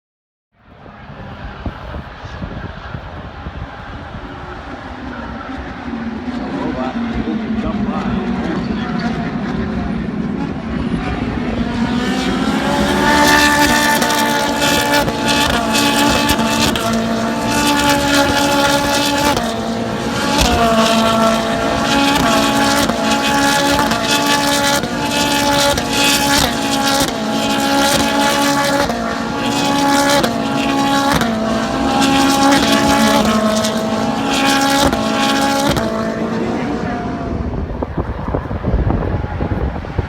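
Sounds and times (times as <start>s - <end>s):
racing car engine at high revs: 1.0s - 40.0s.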